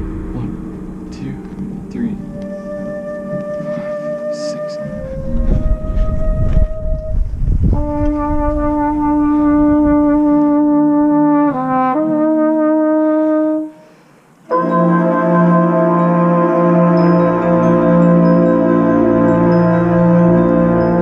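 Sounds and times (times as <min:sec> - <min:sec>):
brass section playing held chords: 0:00.0 - 0:07.1, 0:07.8 - 0:21.0.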